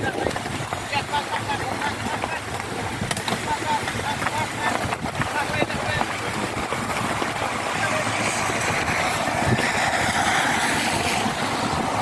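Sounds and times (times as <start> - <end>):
steady rain: 0.0 - 12.0
vehicle engine running: 0.0 - 12.0
wind noise: 0.0 - 12.0.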